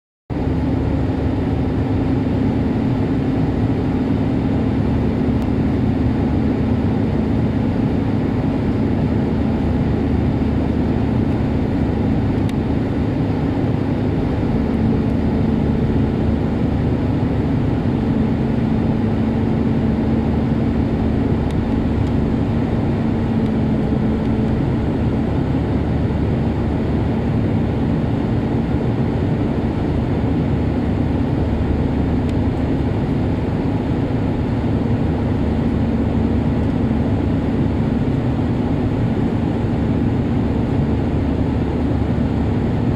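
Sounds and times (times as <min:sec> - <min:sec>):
jet engines and airflow rushing: 0:00.3 - 0:42.9
low hum: 0:00.3 - 0:42.9.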